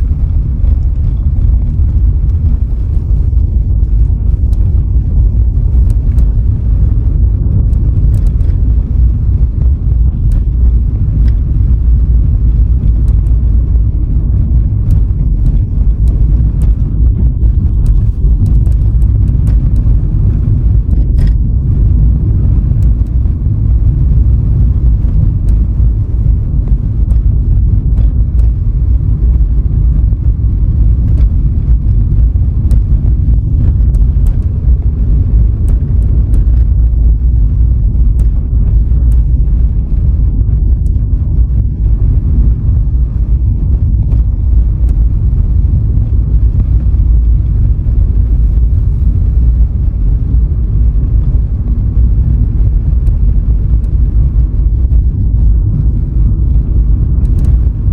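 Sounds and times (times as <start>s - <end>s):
car road and wind noise: 0.0s - 57.9s.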